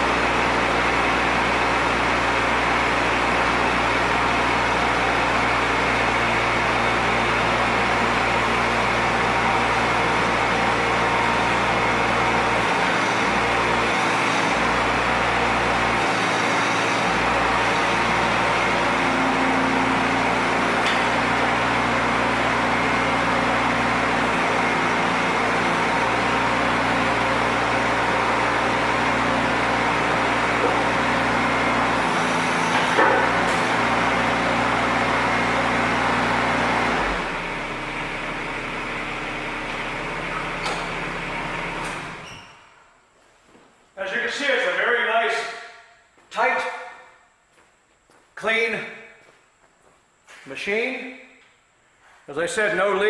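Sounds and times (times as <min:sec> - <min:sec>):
diesel engine running: 0:00.0 - 0:42.8.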